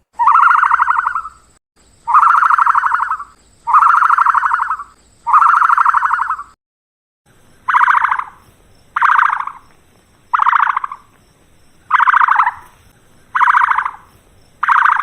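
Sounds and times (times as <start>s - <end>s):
bird buzzy call: 0.0s - 6.6s, 7.5s - 11.2s, 11.9s - 15.0s.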